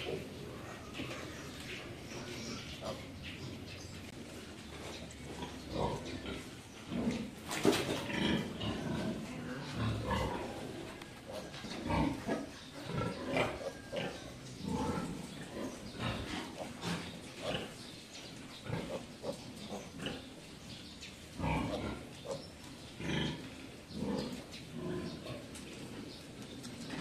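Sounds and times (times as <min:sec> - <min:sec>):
pigs grunting: 0:00.0 - 0:03.7, 0:04.8 - 0:17.9, 0:18.6 - 0:20.4, 0:21.4 - 0:26.0.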